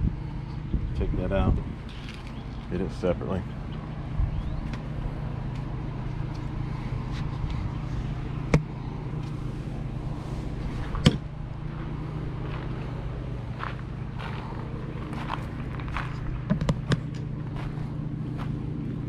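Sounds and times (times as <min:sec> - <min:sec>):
idling engine hum: 0:00.0 - 0:19.0.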